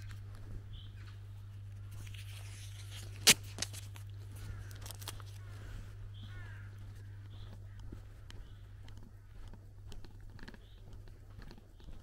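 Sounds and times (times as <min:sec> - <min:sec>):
faint bird calls: 0:00.0 - 0:02.7, 0:04.1 - 0:12.0
footsteps on dirt path: 0:00.0 - 0:12.0
steady low hum: 0:00.0 - 0:12.0.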